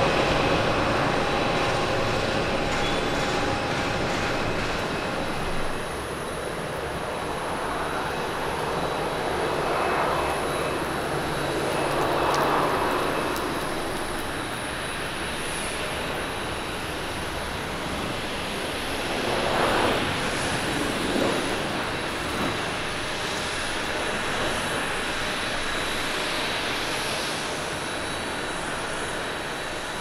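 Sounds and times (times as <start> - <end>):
jet engines on landing: 0.0 - 30.0.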